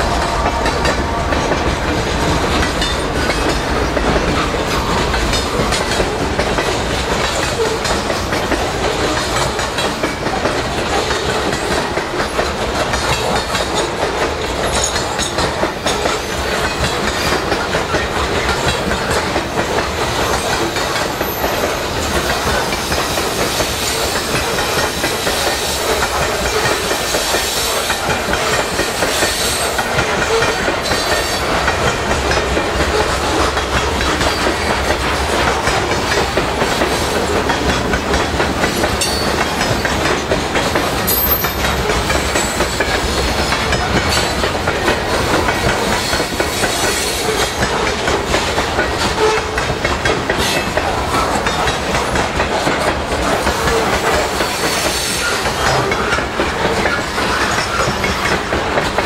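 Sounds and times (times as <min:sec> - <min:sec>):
freight train rumbling past: 0:00.0 - 0:59.0
steel wheels clattering over rails: 0:00.0 - 0:59.0.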